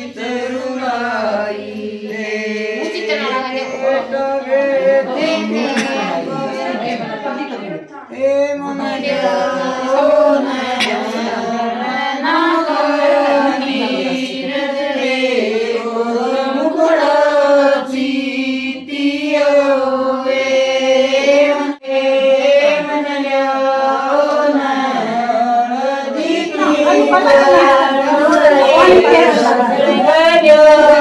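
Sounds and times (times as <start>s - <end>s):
women singing in unison: 0.0s - 7.5s, 8.1s - 31.0s.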